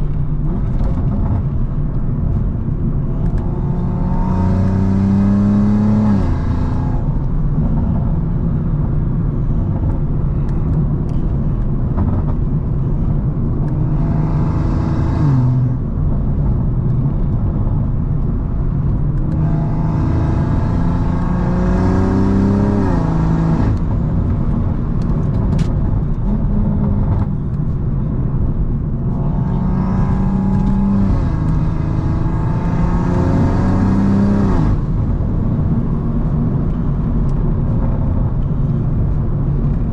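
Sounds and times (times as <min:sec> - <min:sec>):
car engine pulling hard: 0:00.0 - 0:39.9.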